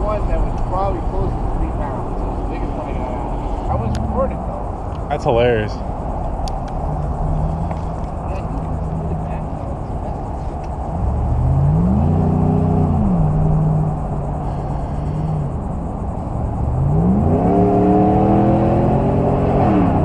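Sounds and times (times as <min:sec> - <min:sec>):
engine accelerating: 0:00.0 - 0:20.0
traffic rumble: 0:00.0 - 0:20.0.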